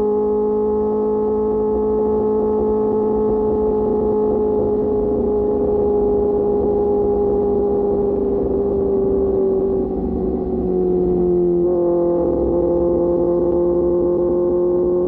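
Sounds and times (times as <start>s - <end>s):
motorcycle engine cruising: 0.0s - 15.0s
low rumble: 2.1s - 15.0s.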